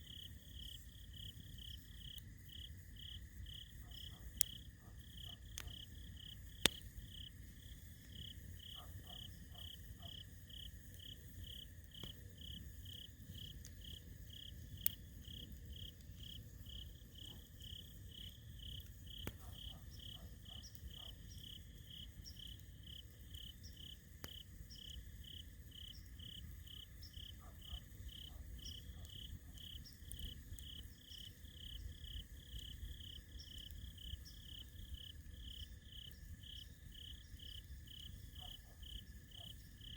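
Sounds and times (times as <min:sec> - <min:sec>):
insects chirping: 0:00.0 - 0:39.9
thin insect trill: 0:00.0 - 0:39.9
campfire crackling and popping: 0:00.1 - 0:38.2.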